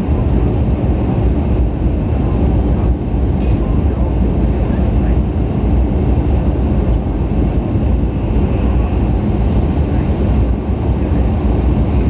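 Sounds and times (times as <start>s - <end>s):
train rumble inside passenger car: 0.0s - 12.0s.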